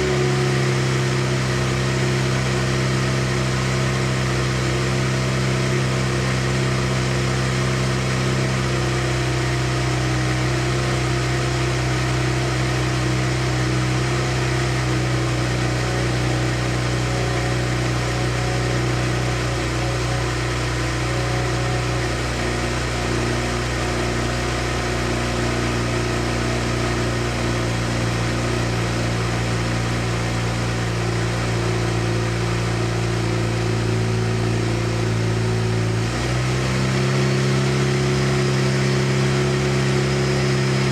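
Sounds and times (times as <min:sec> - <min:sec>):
rotary engine running steadily: 0:00.0 - 0:40.9.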